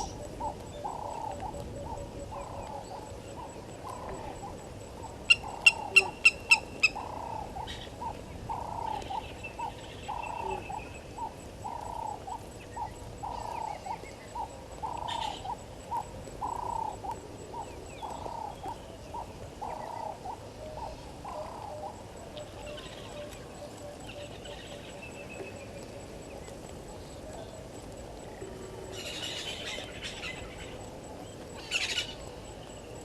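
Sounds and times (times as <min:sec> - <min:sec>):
faint bird chirps: 0:00.0 - 0:33.0.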